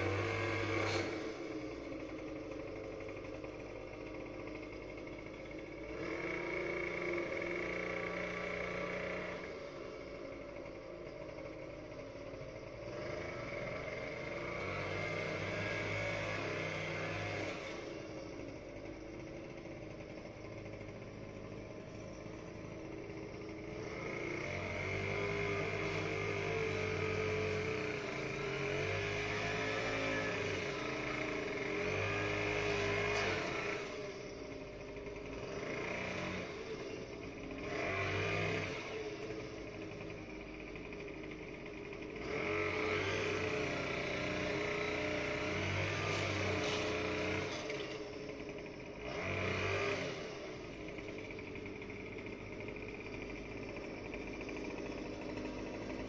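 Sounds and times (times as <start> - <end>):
small gasoline engine revving: 0.0 - 56.0.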